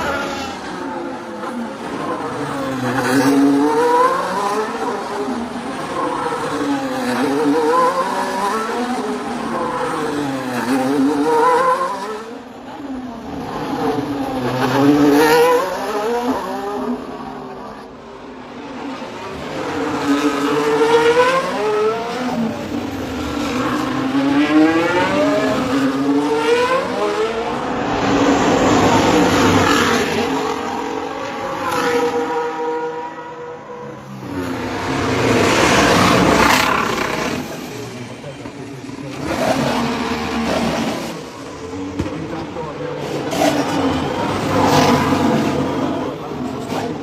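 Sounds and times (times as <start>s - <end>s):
racing cars passing by: 0.0s - 47.0s.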